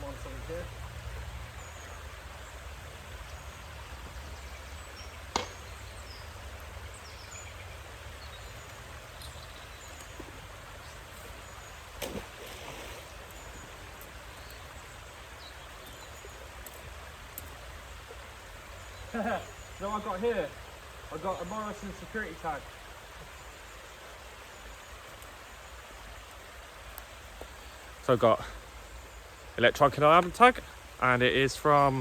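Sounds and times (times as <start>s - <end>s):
rushing outdoor noise: 0.0s - 32.0s.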